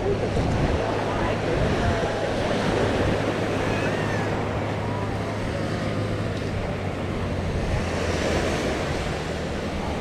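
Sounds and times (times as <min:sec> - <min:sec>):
surf washing on sandy beach: 0:00.0 - 0:10.0
wind buffeting microphone: 0:00.0 - 0:10.0.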